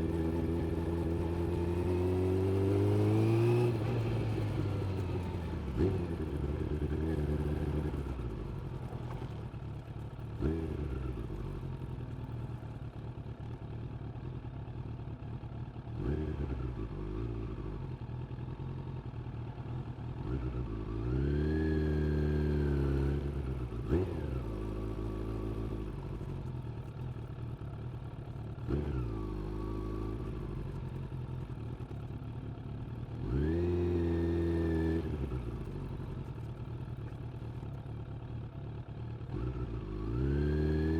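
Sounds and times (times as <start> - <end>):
motorcycle engine revving: 0.0 - 13.6, 15.4 - 40.9.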